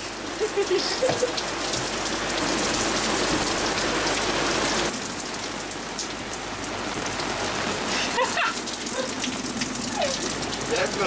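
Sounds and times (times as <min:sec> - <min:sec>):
heavy rain on canvas: 0:00.0 - 0:11.0.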